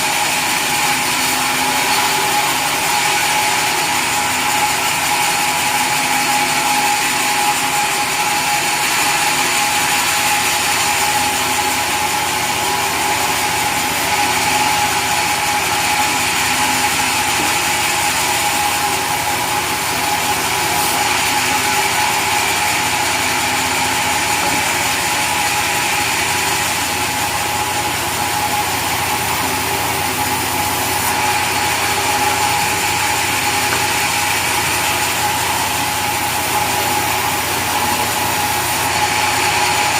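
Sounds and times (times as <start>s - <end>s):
sawmill machinery humming and whining: 0.0s - 39.9s.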